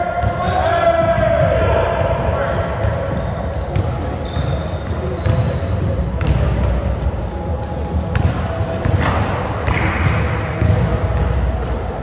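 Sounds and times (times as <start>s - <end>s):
basketballs bouncing on wooden floor: 1.0s - 7.1s, 8.0s - 12.0s.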